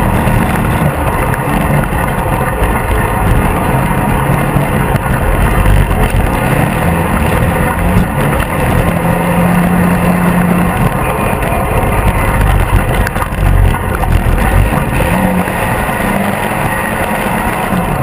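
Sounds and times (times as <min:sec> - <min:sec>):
off-road vehicle engine running: 0:00.0 - 0:18.0
ride rumble: 0:00.0 - 0:18.0.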